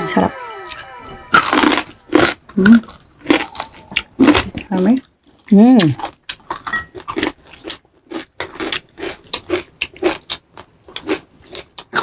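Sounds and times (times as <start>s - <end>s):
chewing crunchy fried food: 1.4s - 12.0s.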